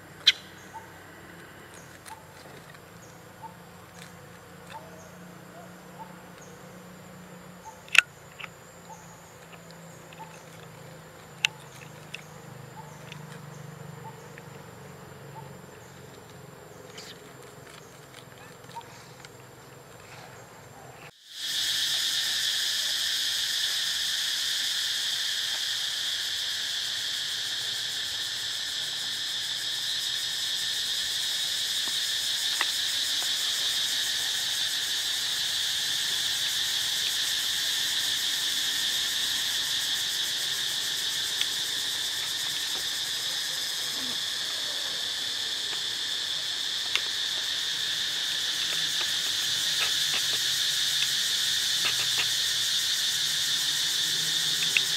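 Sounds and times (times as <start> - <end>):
insects shrilling: 0.0 - 54.9.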